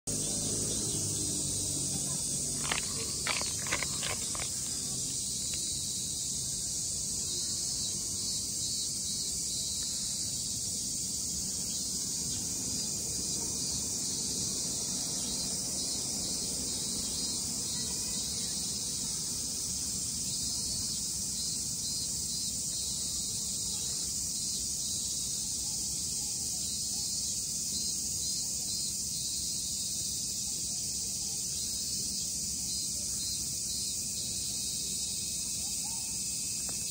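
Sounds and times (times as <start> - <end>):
insects buzzing: 0.1 - 36.9.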